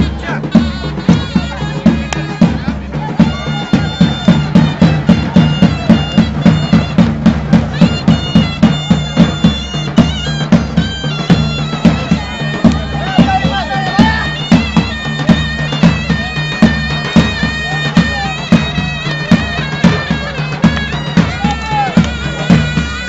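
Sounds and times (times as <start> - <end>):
drum beating steadily: 0.0 - 23.0.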